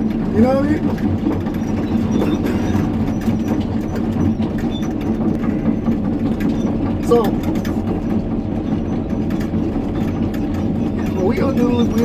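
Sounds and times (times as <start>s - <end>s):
excavator diesel engine running: 0.0s - 12.0s
track knocking and clatter: 0.0s - 12.0s.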